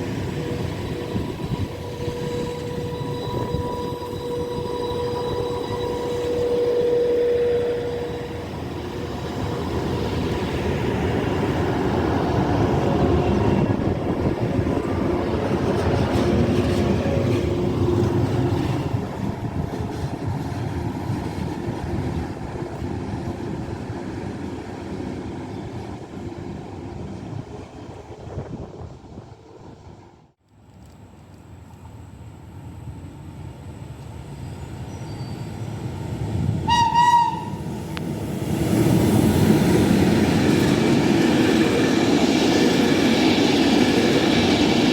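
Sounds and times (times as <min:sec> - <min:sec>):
train wheels rumbling on rails: 0:00.0 - 0:30.1, 0:30.7 - 0:44.9.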